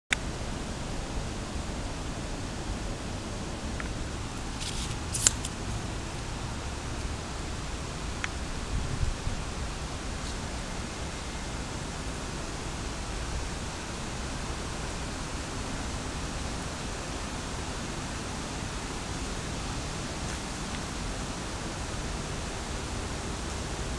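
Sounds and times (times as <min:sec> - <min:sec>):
background hiss: 0:00.1 - 0:23.9.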